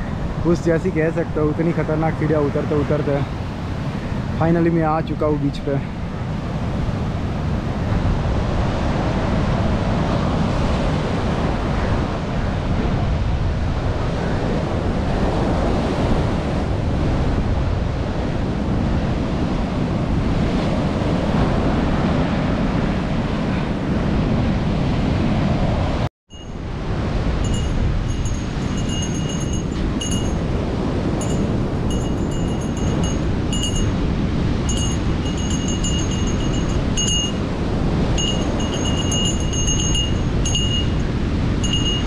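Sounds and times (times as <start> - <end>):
wind rumbling on microphone: 0.0 - 42.0.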